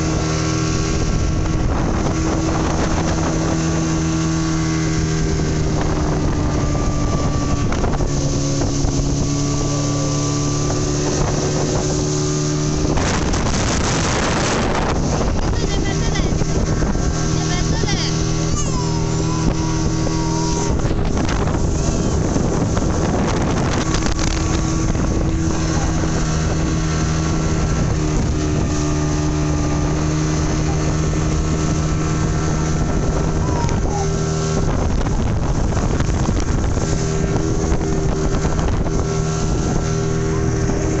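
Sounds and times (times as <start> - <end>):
speedboat engine running: 0.0 - 41.0
water rushing past hull: 0.0 - 41.0
wind buffeting microphone: 0.0 - 41.0.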